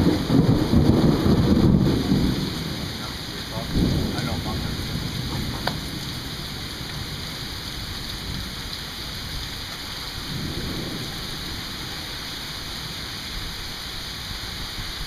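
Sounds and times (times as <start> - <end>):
low thunder rumbling: 0.0 - 13.6
rain hissing: 0.0 - 15.0.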